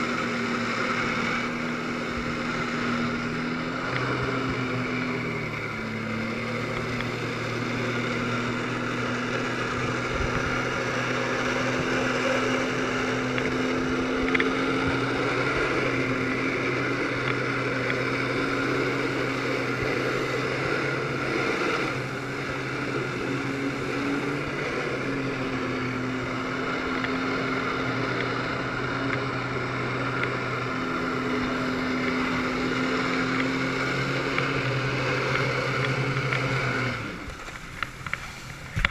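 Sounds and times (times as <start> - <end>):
water rushing: 0.0 - 38.9
watercraft engine at high revs: 0.0 - 38.9.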